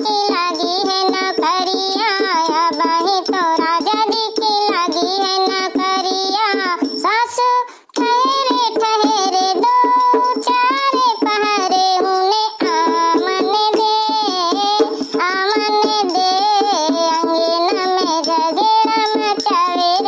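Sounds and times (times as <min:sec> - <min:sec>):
woman singing folk song: 0:00.0 - 0:20.0.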